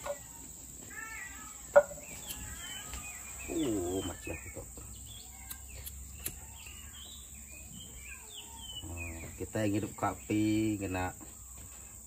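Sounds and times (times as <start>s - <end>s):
insects: 0.0s - 12.0s
small birds chirping: 0.0s - 12.0s.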